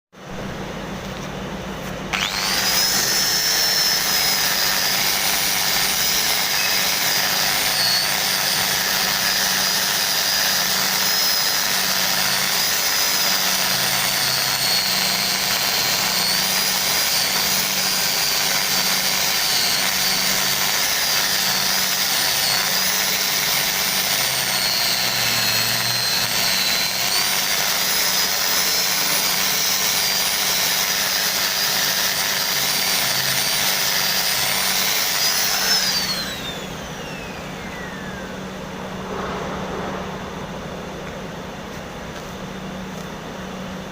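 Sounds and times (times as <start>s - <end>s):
electric power tool motor whining: 2.1s - 38.4s.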